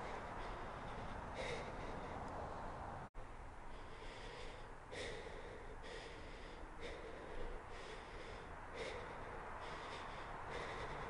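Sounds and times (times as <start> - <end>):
person breathing heavily: 0.0 - 11.0.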